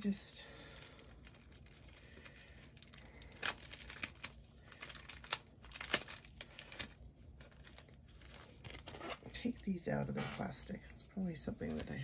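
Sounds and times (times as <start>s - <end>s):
plastic sleeves crinkling: 0.0s - 12.0s.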